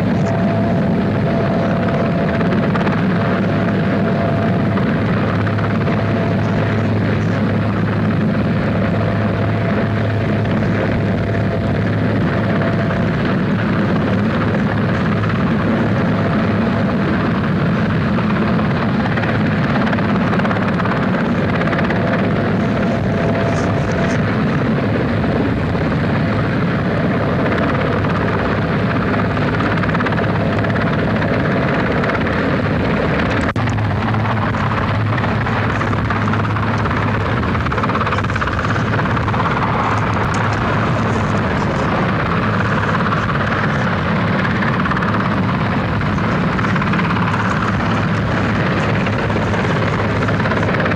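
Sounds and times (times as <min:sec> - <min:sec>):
helicopter hovering: 0:00.0 - 0:50.9.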